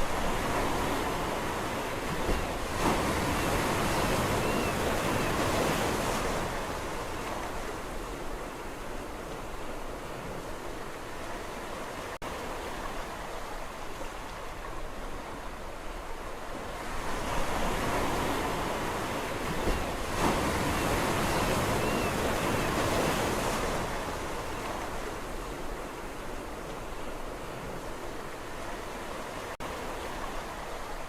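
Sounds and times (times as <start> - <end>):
sea waves washing in: 0.0 - 31.0.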